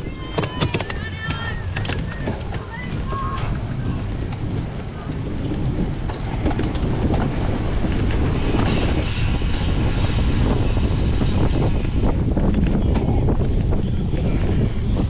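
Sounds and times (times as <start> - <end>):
bike knocks and rattles: 0.0 - 15.0
wind on microphone: 0.0 - 15.0.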